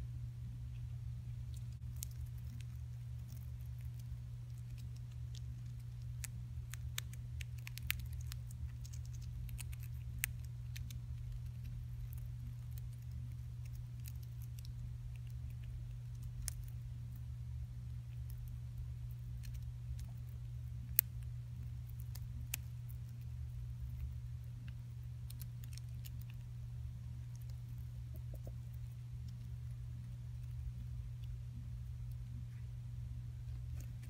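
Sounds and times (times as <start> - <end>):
steady low hum: 0.0 - 34.0
hamster nibbling and rustling bedding: 0.7 - 34.0.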